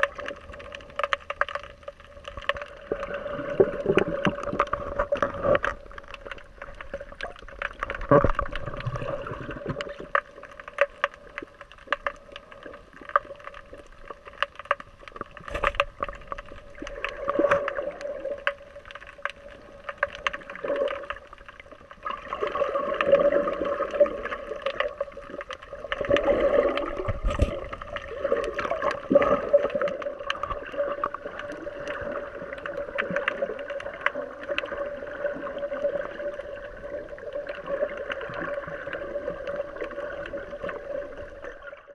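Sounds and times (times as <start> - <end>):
scattered underwater clicks: 0.0 - 41.8
underwater water swirling and gurgling: 0.0 - 41.9.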